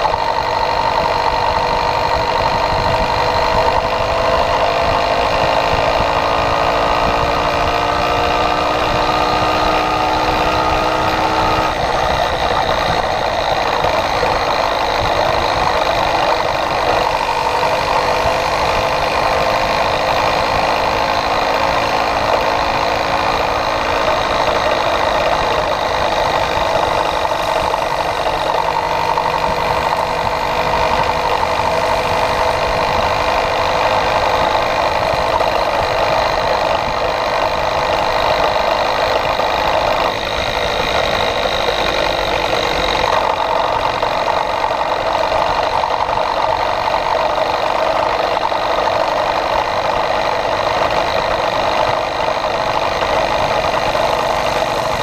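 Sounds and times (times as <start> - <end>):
small bicycle engine running: 0.0 - 55.0
wind on microphone: 0.0 - 55.0.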